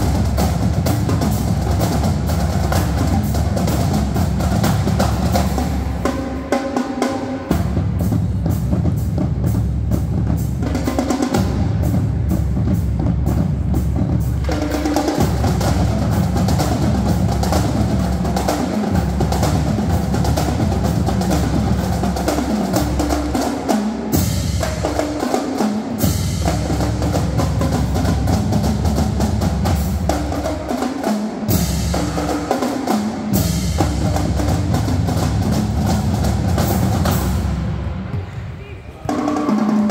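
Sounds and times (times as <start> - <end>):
snare drums: 0.0 - 39.9
tenor drums: 0.0 - 39.9.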